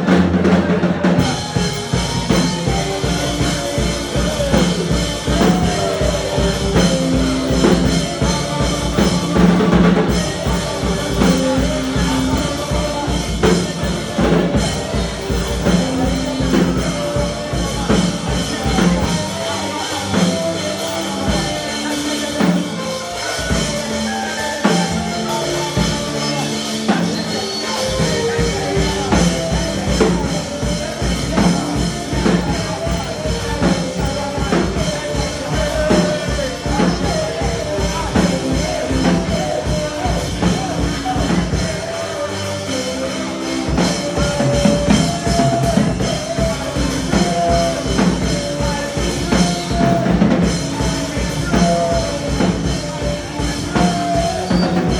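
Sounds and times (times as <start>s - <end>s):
gospel worship music: 0.0s - 54.9s.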